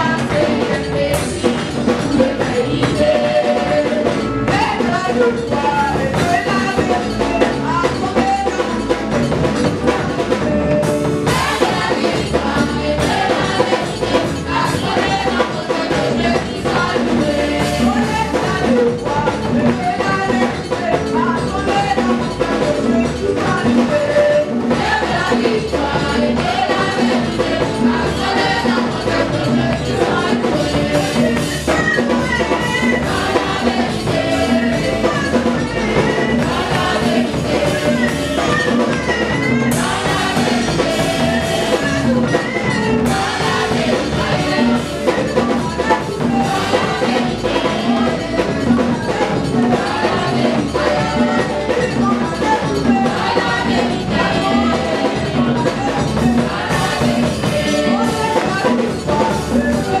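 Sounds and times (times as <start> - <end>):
drum kit beat: 0.0 - 60.0
women singing together: 0.0 - 60.0.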